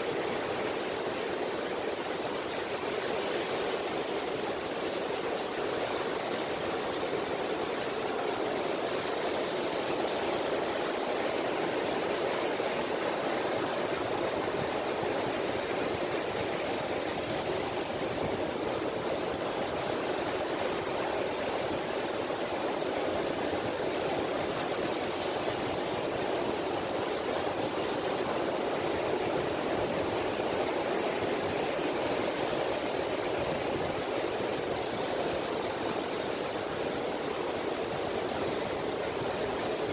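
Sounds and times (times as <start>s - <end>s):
small waves lapping on a beach: 0.0s - 39.9s.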